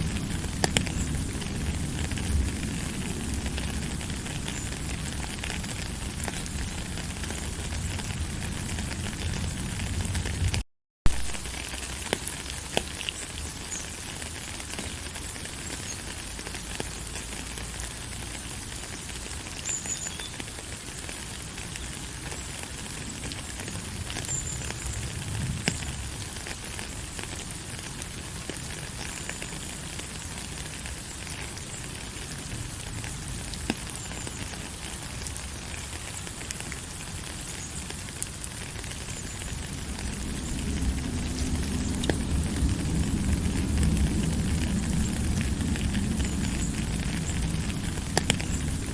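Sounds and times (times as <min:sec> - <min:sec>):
raindrops ticking: 0:00.0 - 0:48.9
steady rain hiss: 0:00.0 - 0:48.9.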